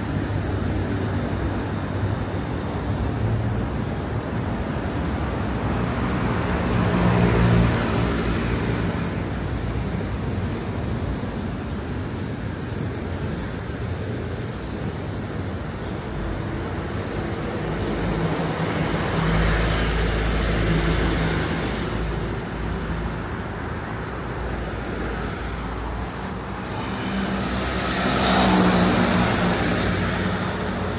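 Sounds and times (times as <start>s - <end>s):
traffic hum: 0.0s - 30.9s
vehicles passing: 0.0s - 30.9s.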